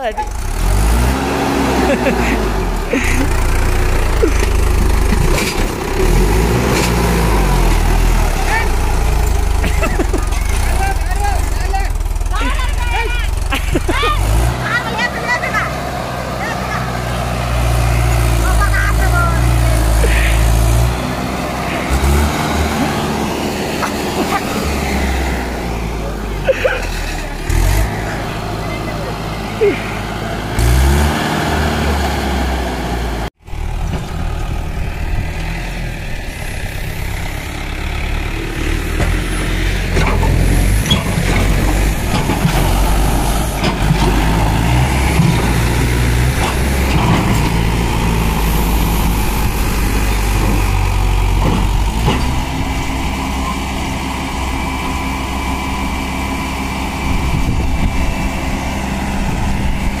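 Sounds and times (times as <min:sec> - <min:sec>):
tractor diesel engine under load: 0:00.0 - 1:00.0.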